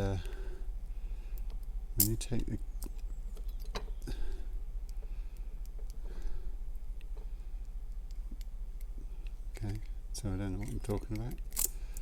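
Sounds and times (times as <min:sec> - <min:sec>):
steady low hum: 0:00.0 - 0:12.0
light metal clicks of padlock parts: 0:00.2 - 0:04.1, 0:04.8 - 0:06.3, 0:07.0 - 0:12.0.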